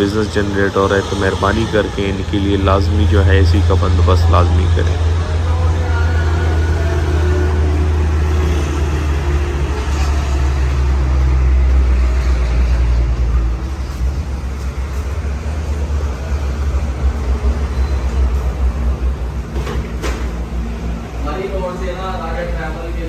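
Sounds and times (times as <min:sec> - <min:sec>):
engine low rumble: 0:00.0 - 0:23.0.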